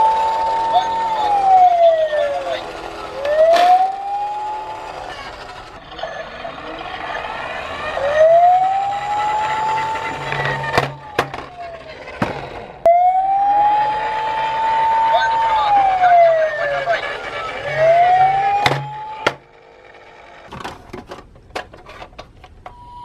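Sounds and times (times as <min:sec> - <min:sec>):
emergency vehicle wail siren: 0:00.0 - 0:12.1, 0:12.8 - 0:19.5.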